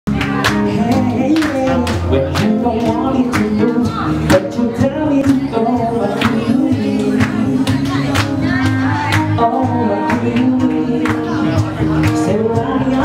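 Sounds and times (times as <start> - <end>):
bass: 0.0 - 13.0
acoustic guitar: 0.1 - 13.0
man singing: 0.1 - 13.0
woman singing: 0.1 - 13.0.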